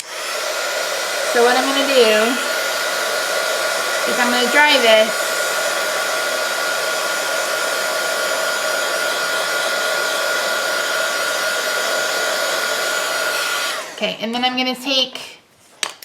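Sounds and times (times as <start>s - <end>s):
hot-air dryer whining: 0.0s - 14.1s.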